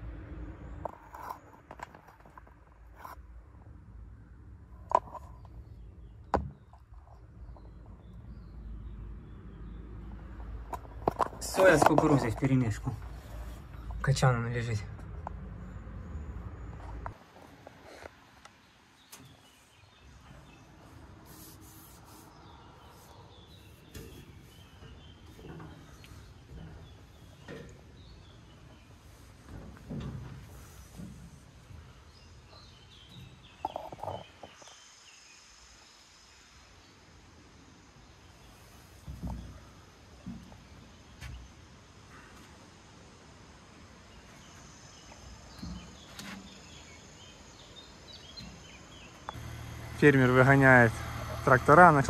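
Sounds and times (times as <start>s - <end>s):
faint birds chirping: 0.0s - 52.0s.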